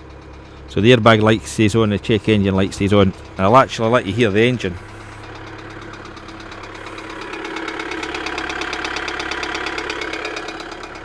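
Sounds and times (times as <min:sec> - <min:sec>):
diesel engine knocking: 0:00.0 - 0:11.0.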